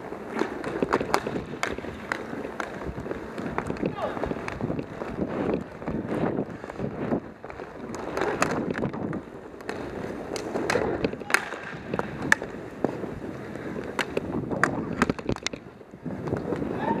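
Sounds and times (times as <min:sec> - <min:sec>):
skate wheels rolling and scraping: 0:00.0 - 0:17.0
sticks and puck clacking: 0:00.0 - 0:17.0.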